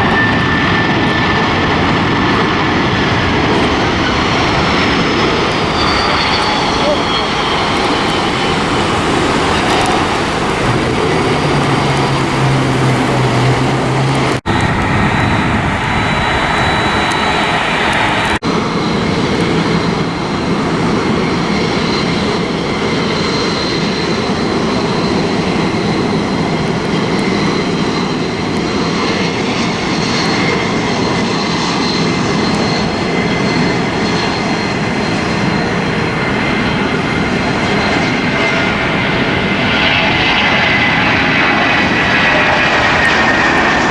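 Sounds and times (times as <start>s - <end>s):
airliner engines roaring: 0.0s - 43.9s
high engine whine: 0.0s - 43.9s.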